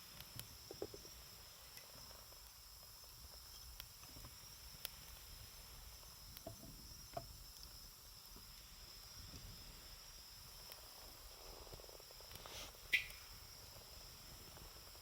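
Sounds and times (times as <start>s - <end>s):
burning wood popping: 0.0s - 15.0s
wood fire burning: 0.0s - 15.0s.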